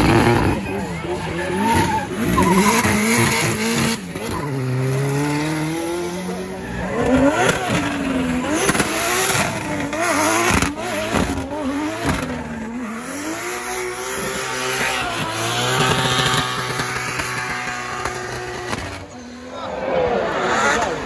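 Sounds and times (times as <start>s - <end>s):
car engine revving: 0.0s - 19.3s.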